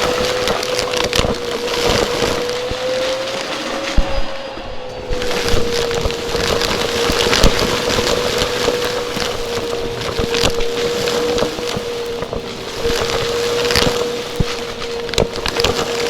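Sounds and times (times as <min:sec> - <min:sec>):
clicks and crackles: 0:00.0 - 0:16.0
vacuum cleaner running: 0:00.0 - 0:16.0.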